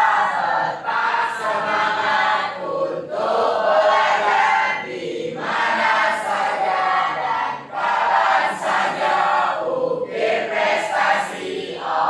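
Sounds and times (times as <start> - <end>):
students singing in unison: 0.0 - 12.0.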